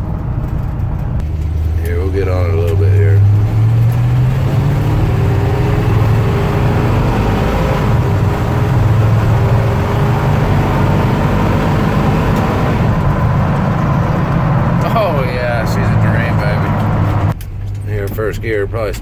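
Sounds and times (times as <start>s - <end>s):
pickup engine accelerating: 0.0s - 19.0s.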